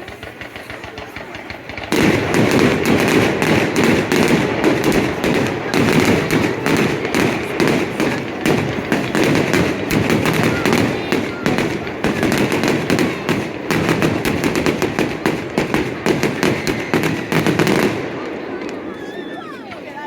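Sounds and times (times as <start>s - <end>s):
fireworks crackling bangs: 0.0s - 20.0s.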